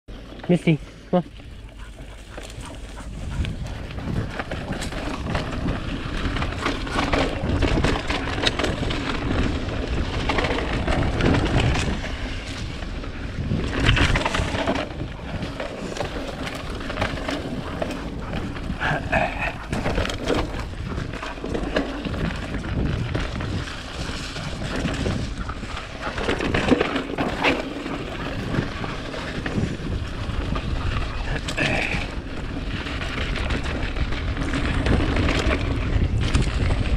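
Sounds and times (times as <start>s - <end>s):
tyres rolling on dirt: 0.1s - 36.9s
bike clattering over bumps: 1.3s - 36.9s
wind rushing over microphone: 1.3s - 36.9s.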